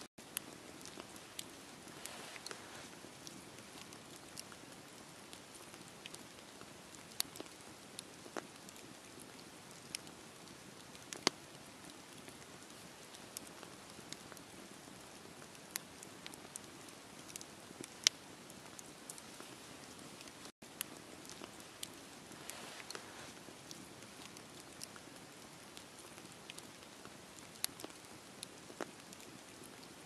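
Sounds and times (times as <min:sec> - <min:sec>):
sharp pops and snaps: 0:00.2 - 0:30.0
wood fire crackling: 0:00.2 - 0:30.0.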